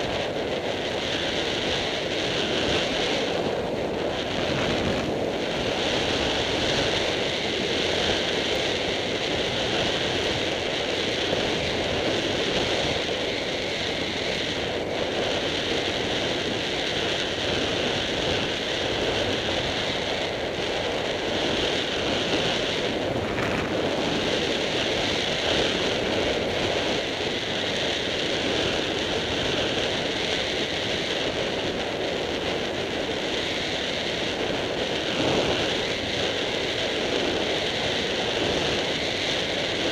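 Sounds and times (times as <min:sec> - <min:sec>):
vehicle rolling on dirt track: 0:00.0 - 0:39.9
wind rushing over microphone: 0:00.0 - 0:39.9.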